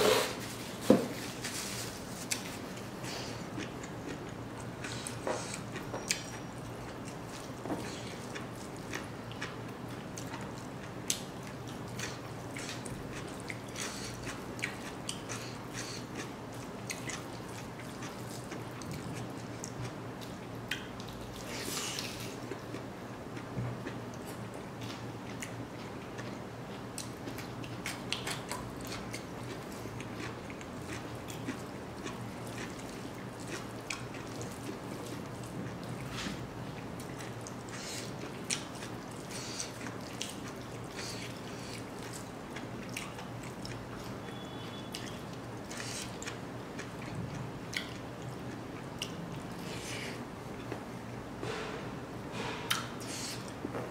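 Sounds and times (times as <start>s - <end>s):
man chewing food: 0.0s - 51.6s.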